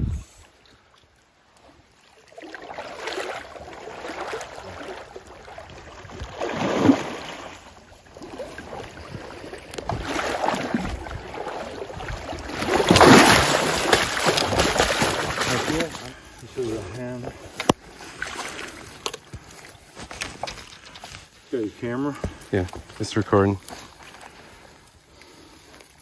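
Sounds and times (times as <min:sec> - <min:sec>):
water sloshing around wading legs: 0:00.6 - 0:26.0.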